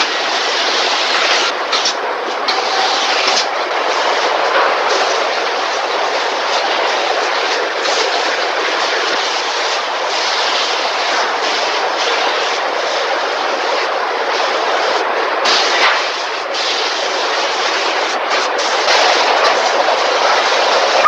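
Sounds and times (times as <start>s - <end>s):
hissing and rumbling factory noise: 0.0s - 21.0s.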